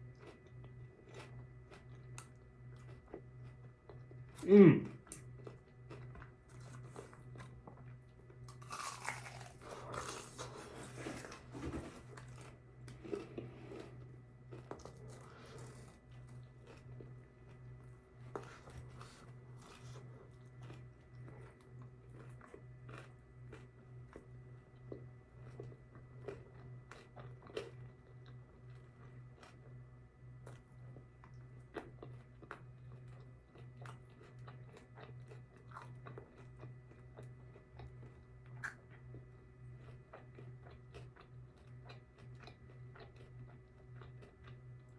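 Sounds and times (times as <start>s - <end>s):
chewing crispy food: 0.0s - 44.9s.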